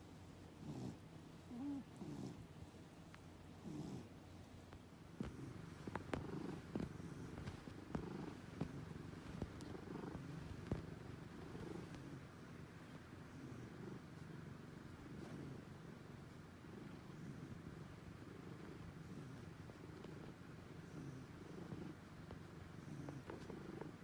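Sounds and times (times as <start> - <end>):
cat purring: 0.6 - 2.8, 3.6 - 4.5, 5.1 - 24.0.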